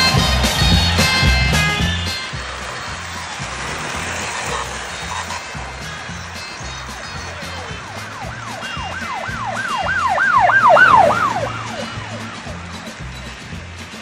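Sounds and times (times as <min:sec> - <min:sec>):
siren wailing: 0:00.0 - 0:13.4
background music: 0:00.0 - 0:14.0.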